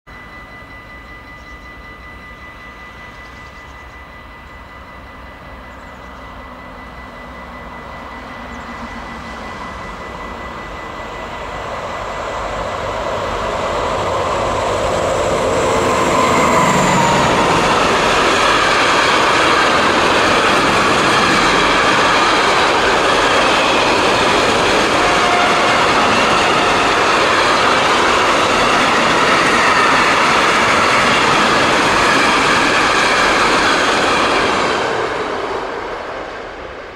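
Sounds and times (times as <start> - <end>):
diesel locomotive passing: 0.1 - 36.9
train wagons rolling past: 0.1 - 36.9.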